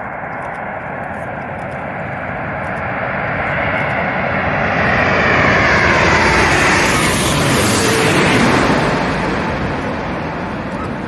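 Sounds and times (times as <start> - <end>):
airliner engine noise: 0.0 - 11.0.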